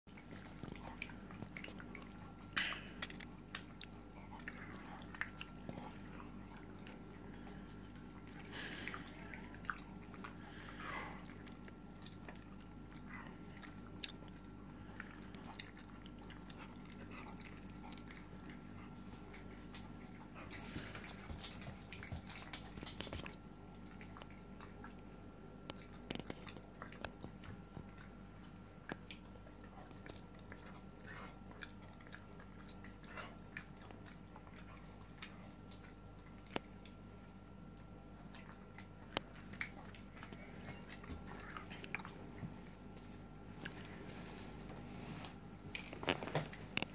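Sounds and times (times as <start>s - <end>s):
dog chewing with wet smacks: 0.1s - 44.1s.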